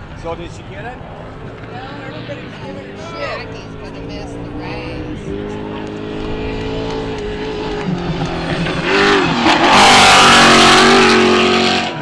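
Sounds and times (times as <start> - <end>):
race engine steady note: 0.0 - 12.0
race engine revving hard: 2.4 - 12.0.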